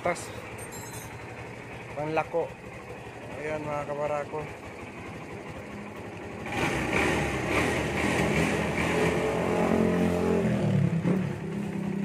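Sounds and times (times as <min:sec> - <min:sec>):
motorcycle engine revving: 0:00.6 - 0:12.0.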